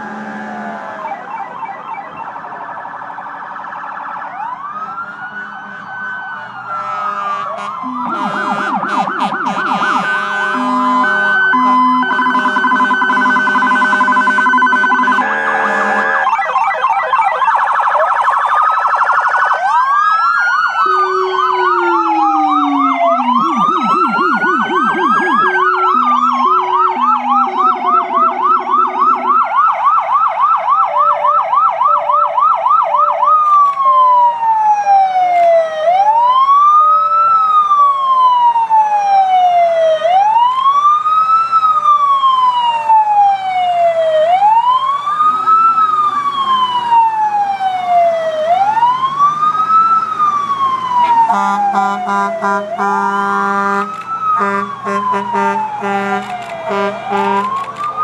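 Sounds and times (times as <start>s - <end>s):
emergency vehicle sirens: 0.0s - 58.0s.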